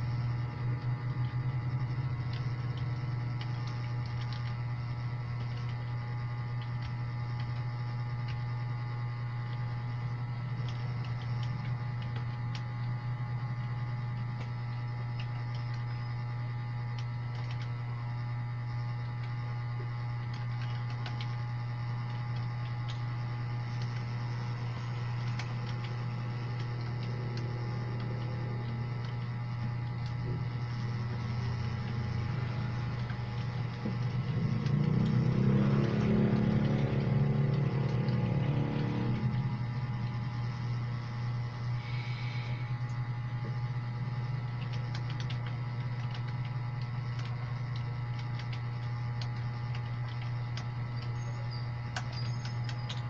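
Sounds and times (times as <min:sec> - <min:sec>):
keyboard typing: 0:00.0 - 0:08.6, 0:09.4 - 0:16.2, 0:16.9 - 0:17.9, 0:18.7 - 0:41.7, 0:44.1 - 0:53.0
loud electrical hum: 0:00.0 - 0:53.0.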